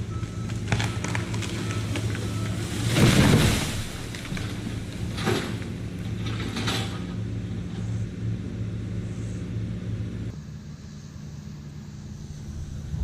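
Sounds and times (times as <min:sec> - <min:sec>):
engine idling: 0:00.0 - 0:03.0, 0:03.7 - 0:13.0.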